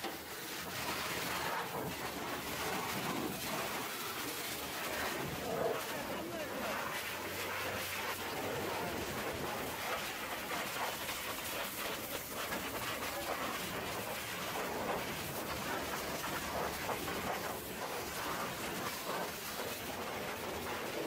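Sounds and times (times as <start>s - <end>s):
pressure washer spraying metal: 0.0s - 21.0s.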